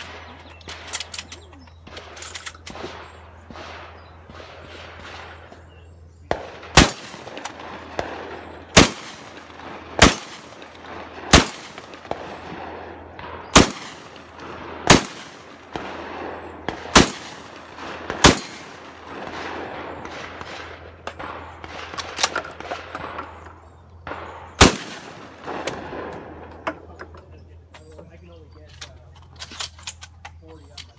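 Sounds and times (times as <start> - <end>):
shotgun shots: 0.0 - 27.0.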